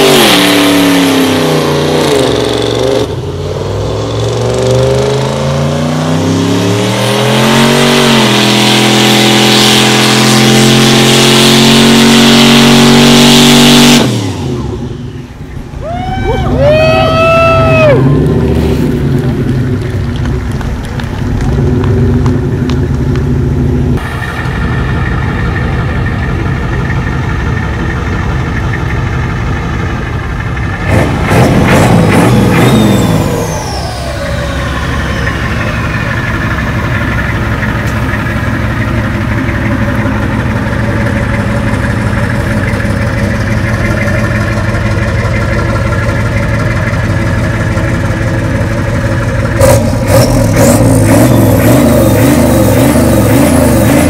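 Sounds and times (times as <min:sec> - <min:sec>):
truck engine idling and revving: 0:00.0 - 0:54.0.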